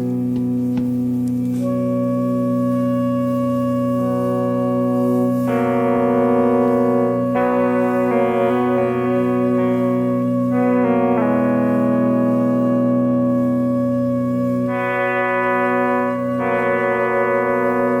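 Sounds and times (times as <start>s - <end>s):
low drone: 0.0s - 18.0s
slow ambient music: 0.0s - 18.0s.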